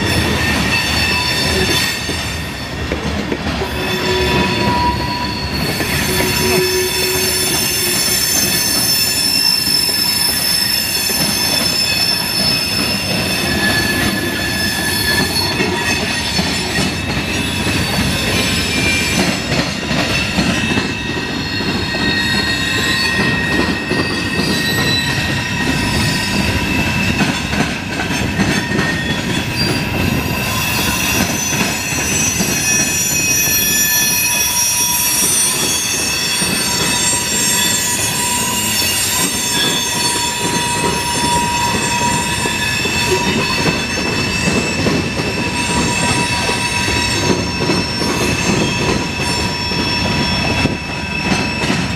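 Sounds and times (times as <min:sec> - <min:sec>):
rumble and clatter of train cars: 0:00.0 - 0:51.9
train wheels squealing: 0:00.0 - 0:51.9.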